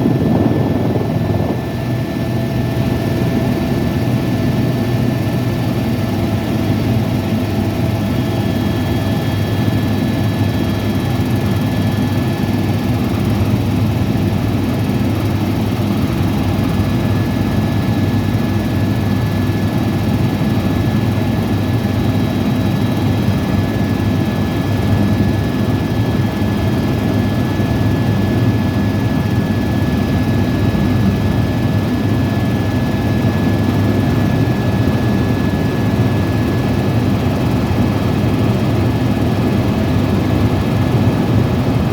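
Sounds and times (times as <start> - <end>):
helicopter high whine: 0.0 - 41.9
helicopter low rumble: 0.0 - 41.9.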